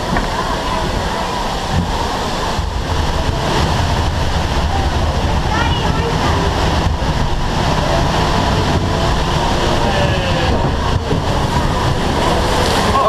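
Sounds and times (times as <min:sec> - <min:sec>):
lift conveyor rumble and clatter: 0:00.0 - 0:13.0
running water: 0:00.0 - 0:13.0.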